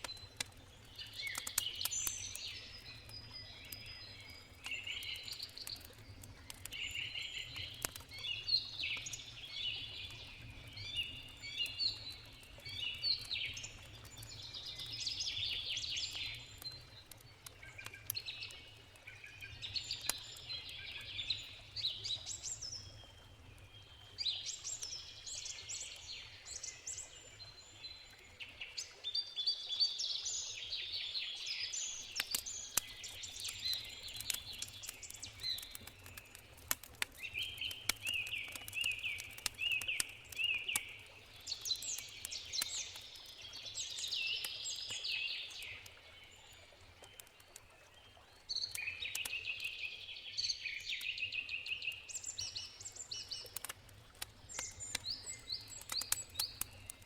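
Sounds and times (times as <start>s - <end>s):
campfire crackling and popping: 0.0s - 29.0s, 30.0s - 57.0s
songbirds singing and chirping: 0.0s - 57.0s.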